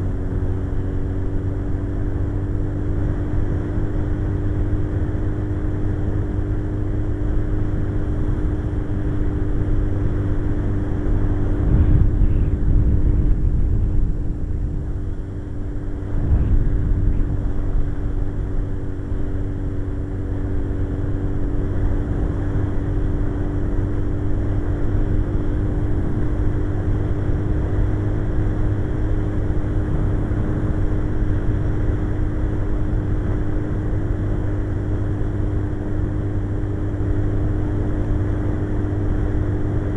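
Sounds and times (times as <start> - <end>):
motorcycle engine cruising: 0.0 - 39.9
wind rush on microphone: 6.2 - 39.9.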